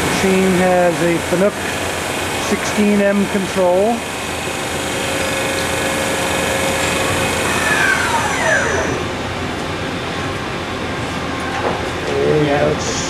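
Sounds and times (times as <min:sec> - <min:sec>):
machine whine: 0:00.0 - 0:13.0
machinery hum: 0:00.0 - 0:13.0.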